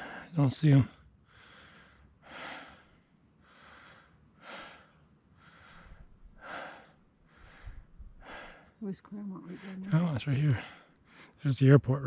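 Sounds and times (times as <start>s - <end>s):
person breathing heavily: 0.0s - 0.4s, 1.2s - 8.8s, 9.4s - 11.4s.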